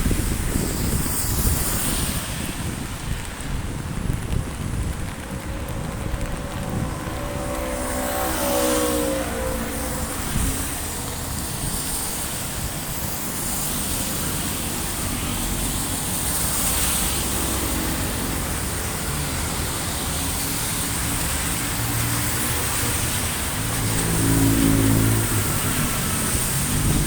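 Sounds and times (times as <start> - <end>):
heavy rain falling: 0.0 - 27.0
traffic on wet road: 0.0 - 27.0
vehicle engine low hum: 2.4 - 27.0.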